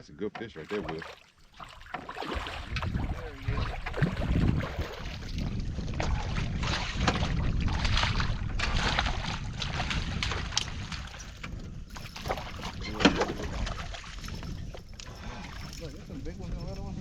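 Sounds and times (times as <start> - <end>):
water sloshing around boat: 0.0 - 17.0
wind rumbling on microphone: 1.5 - 17.0.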